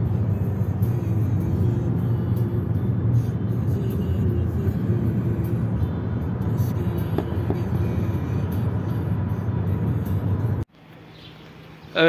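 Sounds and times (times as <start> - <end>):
car cabin road rumble: 0.0 - 10.7
music playing: 0.0 - 10.7.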